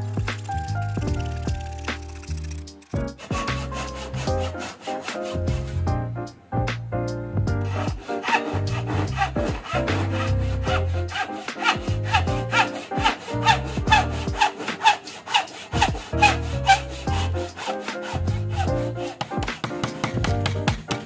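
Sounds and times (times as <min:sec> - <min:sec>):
hand saw cutting wood: 0:00.0 - 0:05.9, 0:07.6 - 0:21.0.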